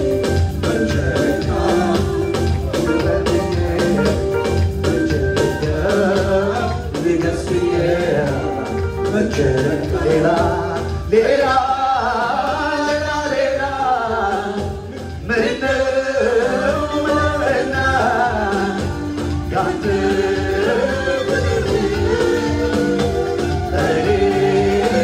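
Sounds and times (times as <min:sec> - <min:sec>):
wedding dance music: 0:00.0 - 0:25.0.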